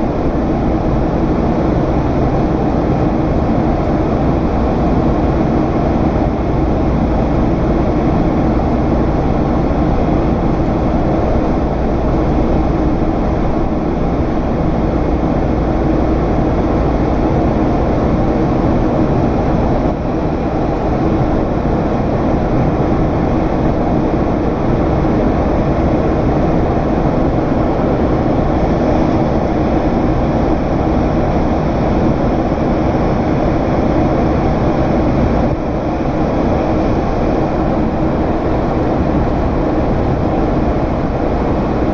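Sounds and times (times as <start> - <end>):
jet engines heard inside cabin: 0.0 - 41.9.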